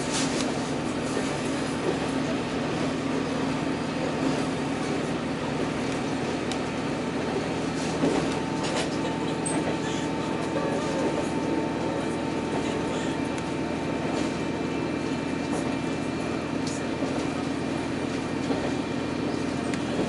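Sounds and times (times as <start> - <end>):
diesel engine drone: 0.0 - 20.0
wheel-on-rail rumble: 0.0 - 20.0.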